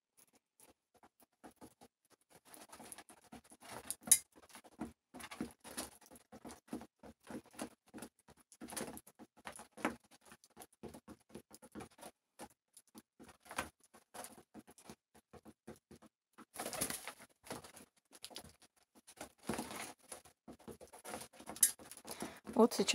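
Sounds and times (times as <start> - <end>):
pigeons pecking on wood: 0.2 - 22.9.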